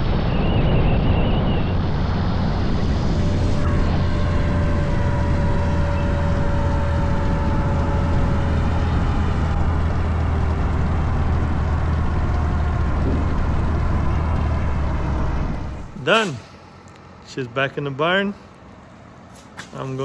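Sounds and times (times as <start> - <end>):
vehicle engine droning: 0.0 - 20.0
faint steady tones: 0.4 - 20.0.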